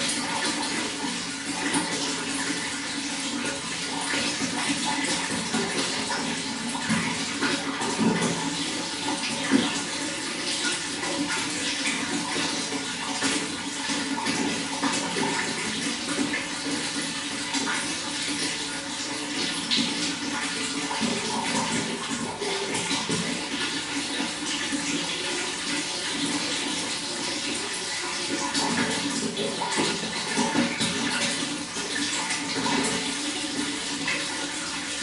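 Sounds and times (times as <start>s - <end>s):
running water: 0.0s - 35.0s
water splashes and drips: 0.0s - 35.0s.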